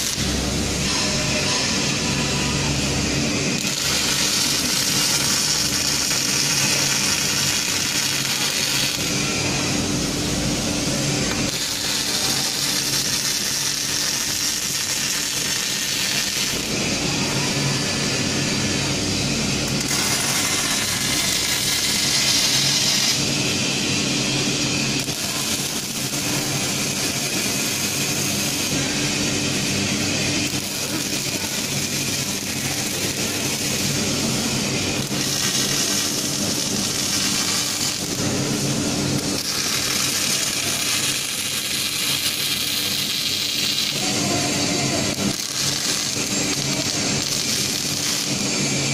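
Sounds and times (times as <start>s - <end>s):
cooling fan running: 0.0s - 48.9s
welding arc crackling: 0.0s - 48.9s
welding machine hum and hiss: 0.0s - 48.9s.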